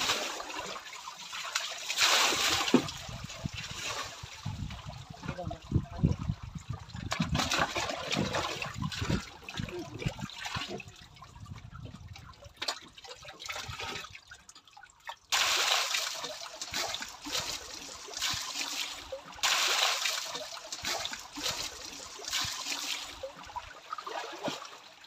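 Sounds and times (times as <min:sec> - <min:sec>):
water poured and splashing: 0:00.0 - 0:25.0
water trickling: 0:00.0 - 0:25.0.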